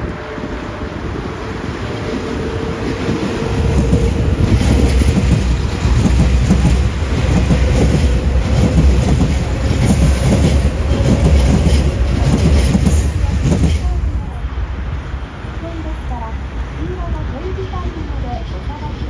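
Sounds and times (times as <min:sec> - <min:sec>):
electric train rumbling past: 0:00.0 - 0:19.0.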